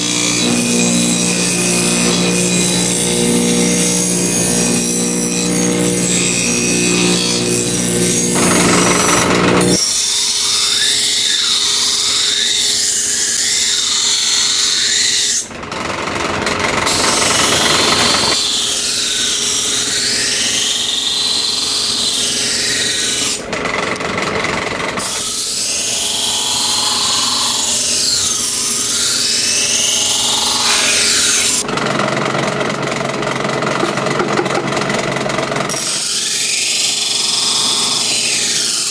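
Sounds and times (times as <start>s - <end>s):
electric grinder grinding steel: 0.0s - 38.9s.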